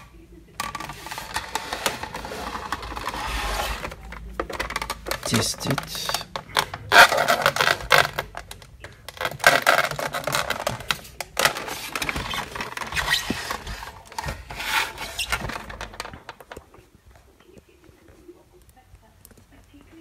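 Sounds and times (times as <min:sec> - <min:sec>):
plastic housing scraping and knocking: 0:00.6 - 0:16.8.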